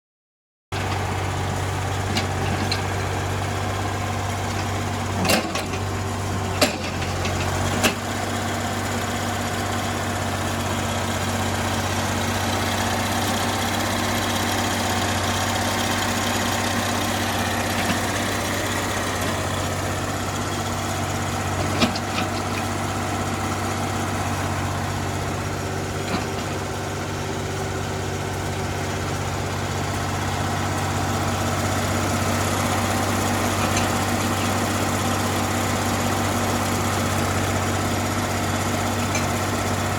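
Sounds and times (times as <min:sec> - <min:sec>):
diesel engine idling: 0:00.7 - 0:39.9.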